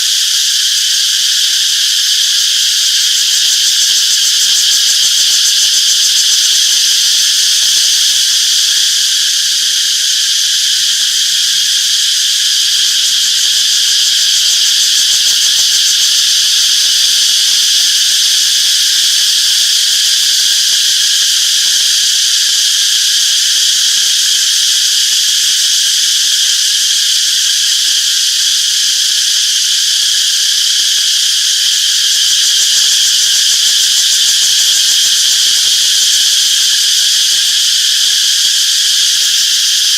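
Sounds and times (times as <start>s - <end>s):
cicadas droning: 0.0s - 39.9s.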